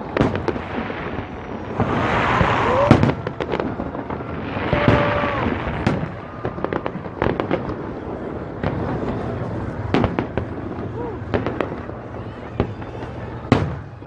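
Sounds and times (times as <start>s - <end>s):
crowd noise: 0.0s - 14.0s
fireworks bangs and crackling: 0.0s - 14.0s.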